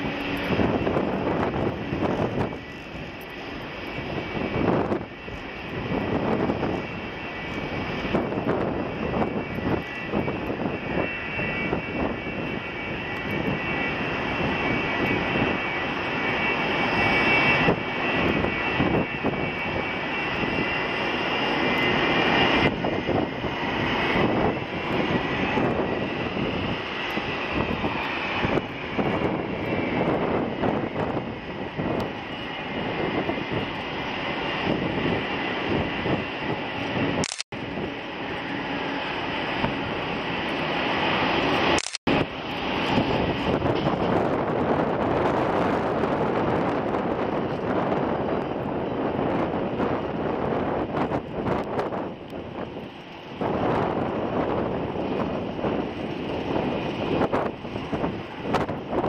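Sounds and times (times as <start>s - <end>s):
jet engines at taxi power: 0.0s - 59.0s.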